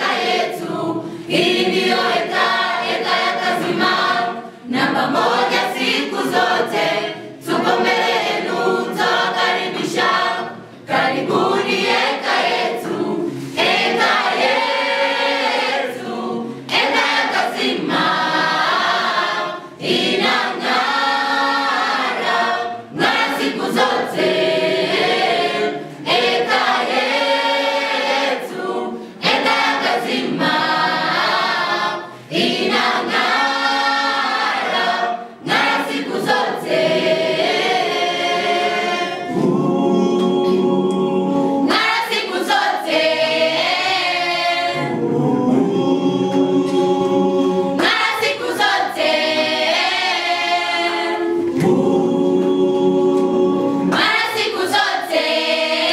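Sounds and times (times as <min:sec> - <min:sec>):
choir singing unaccompanied: 0:00.0 - 0:55.9.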